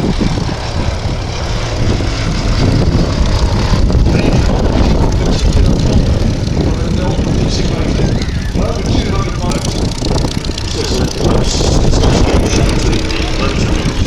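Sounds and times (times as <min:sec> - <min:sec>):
piston aircraft engine running: 0:00.0 - 0:14.0.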